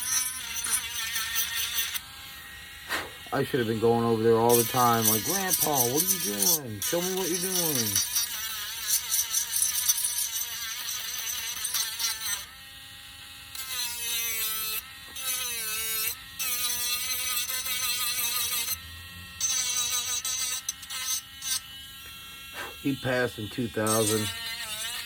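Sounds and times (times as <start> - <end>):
electric sander on wood: 0.0 - 25.0.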